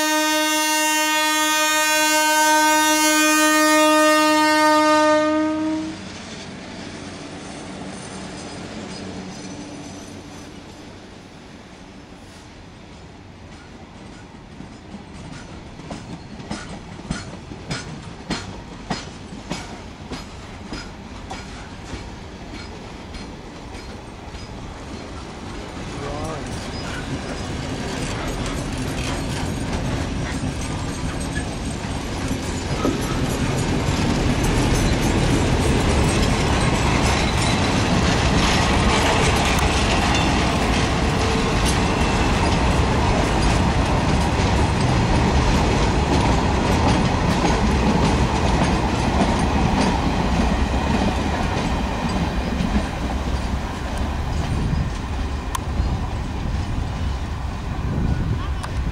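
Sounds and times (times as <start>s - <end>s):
train wagons rolling over rails: 2.9s - 58.9s.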